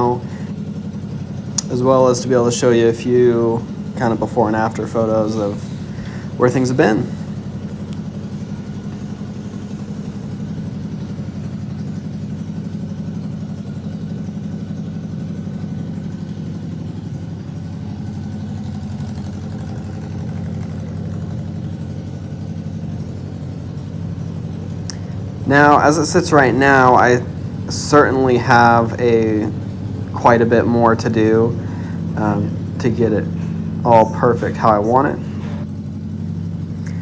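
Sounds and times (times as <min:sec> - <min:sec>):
engine idling: 0:00.0 - 0:37.0.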